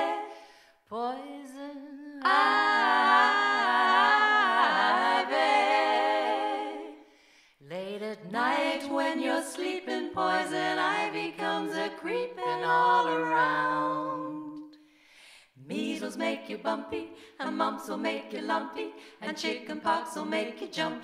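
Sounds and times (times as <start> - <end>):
women singing a cappella chord: 0.0 - 21.0.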